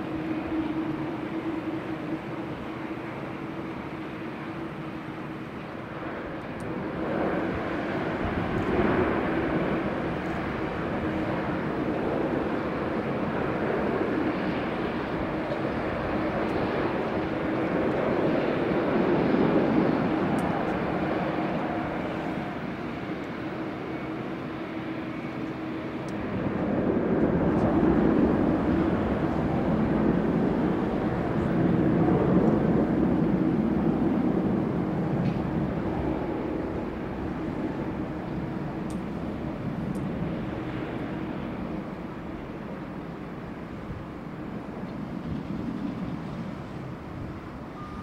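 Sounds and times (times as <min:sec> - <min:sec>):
jet airliner engines running: 0:00.0 - 0:48.0.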